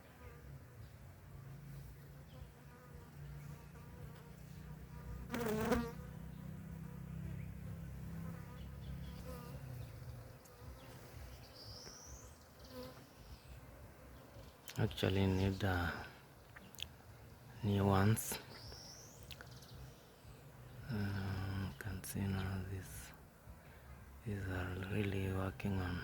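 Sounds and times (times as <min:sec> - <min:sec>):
honeybees buzzing: 0:00.0 - 0:23.6.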